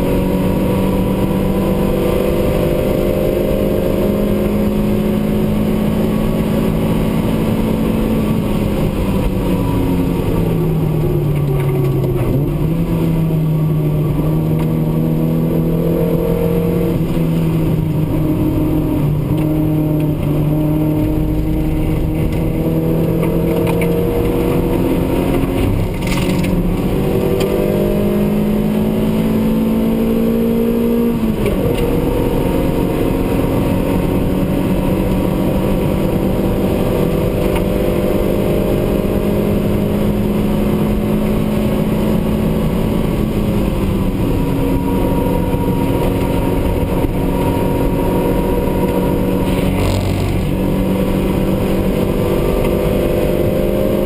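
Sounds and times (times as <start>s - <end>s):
racing car engine at full throttle: 0.0s - 54.0s.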